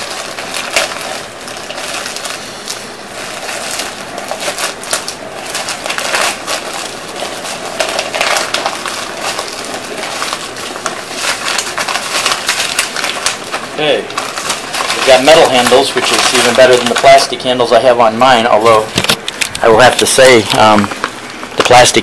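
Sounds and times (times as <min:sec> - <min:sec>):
inner plastic bag rustling: 0:00.0 - 0:22.0
plastic bag crinkling: 0:00.0 - 0:22.0.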